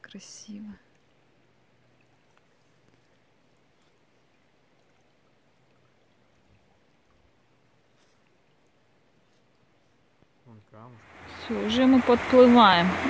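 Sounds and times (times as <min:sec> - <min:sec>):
faint hiss of river water: 0:00.0 - 0:13.0.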